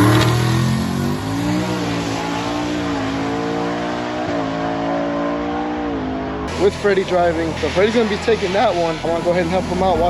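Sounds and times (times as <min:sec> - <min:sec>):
truck engine revving and idling: 0:00.0 - 0:10.0.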